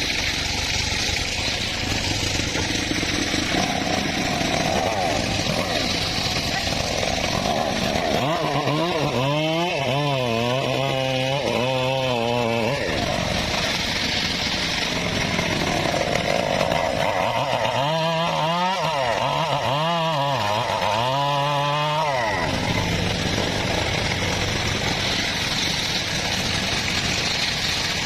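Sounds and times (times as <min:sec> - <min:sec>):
engine-driven saw cutting wood: 0:00.0 - 0:28.0.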